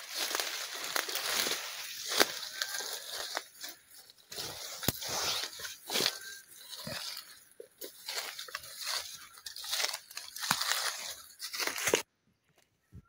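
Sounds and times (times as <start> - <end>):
brushing against undergrowth: 0.0 - 12.1
footsteps crunching through dry leaves: 0.0 - 12.1.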